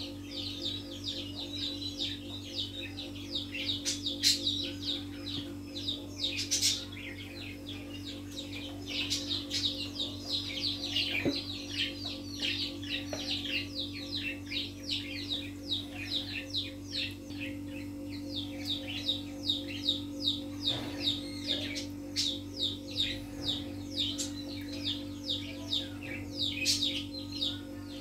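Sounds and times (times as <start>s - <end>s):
small birds chirping: 0.0s - 28.0s
steady electrical hum: 0.0s - 28.0s.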